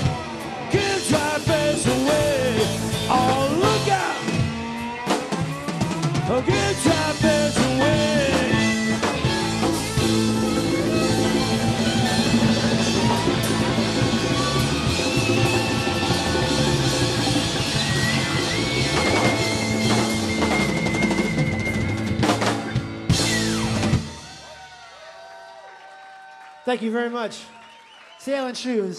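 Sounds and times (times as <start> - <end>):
band playing accented hits: 0.0 - 24.7
rock band playing: 0.0 - 25.0.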